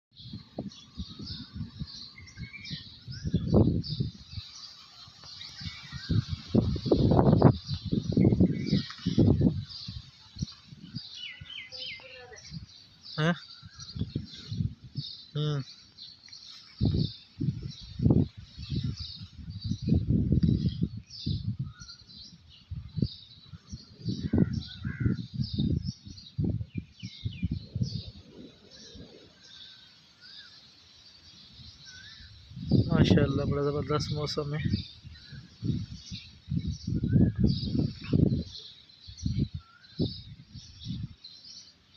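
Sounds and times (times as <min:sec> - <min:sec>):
birds chirping: 0:00.1 - 0:41.9
wind buffeting microphone: 0:00.1 - 0:41.9.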